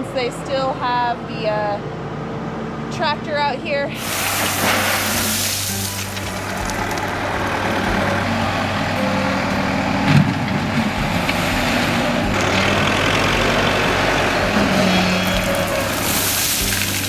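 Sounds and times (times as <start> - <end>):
wheel loader engine running: 0.0 - 17.0.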